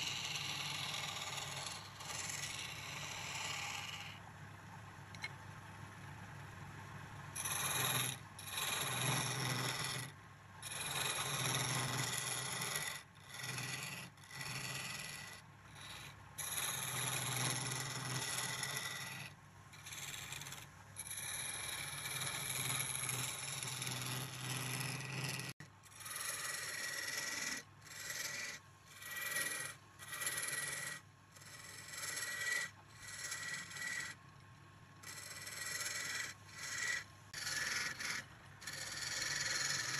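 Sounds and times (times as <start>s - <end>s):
lathe tool scraping wood: 0.0s - 4.2s, 7.4s - 34.2s, 35.0s - 39.9s.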